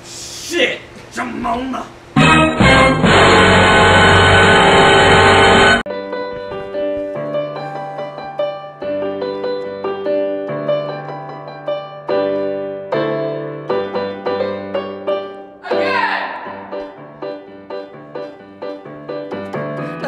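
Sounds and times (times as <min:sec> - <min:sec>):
piano chords: 0:02.2 - 0:20.0.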